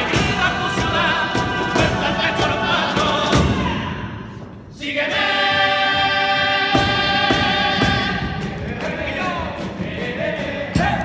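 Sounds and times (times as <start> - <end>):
drum strikes: 0.0 - 4.1, 5.4 - 11.0
male chorus singing in harmony: 0.0 - 11.0.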